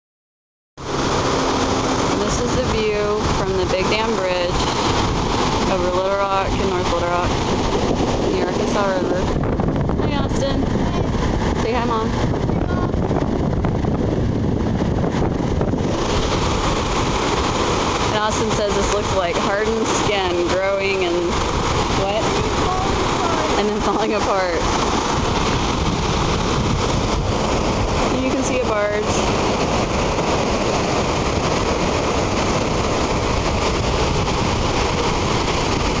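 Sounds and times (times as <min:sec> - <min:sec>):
river water rushing: 0:00.8 - 0:36.0
wind buffeting microphone: 0:00.8 - 0:36.0.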